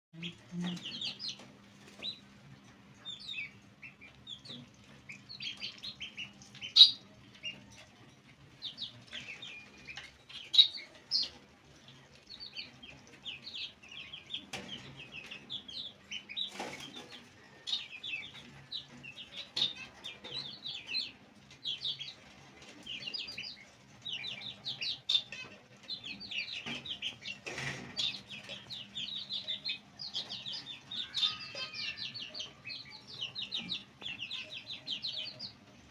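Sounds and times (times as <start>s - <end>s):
baby chicks peeping: 0.2s - 35.9s.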